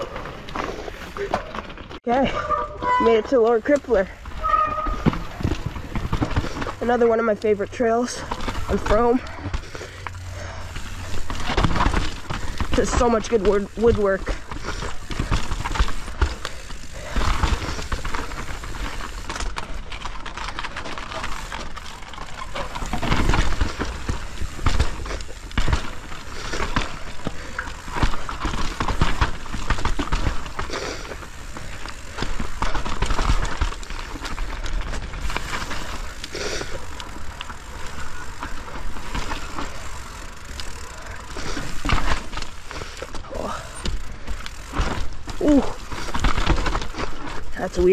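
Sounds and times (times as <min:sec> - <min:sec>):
bike chain and frame rattling: 0:00.0 - 0:47.9
bike tyres rolling over snow: 0:00.0 - 0:47.9.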